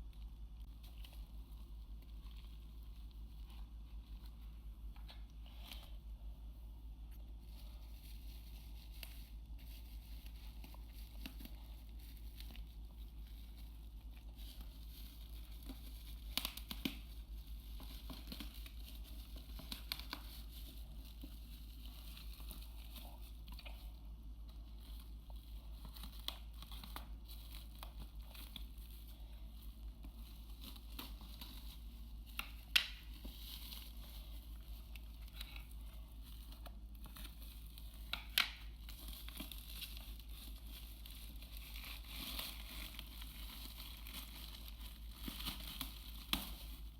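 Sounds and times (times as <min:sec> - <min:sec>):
steady low hum: 0:00.0 - 0:46.9
wrapping crinkling and tearing: 0:07.1 - 0:46.9.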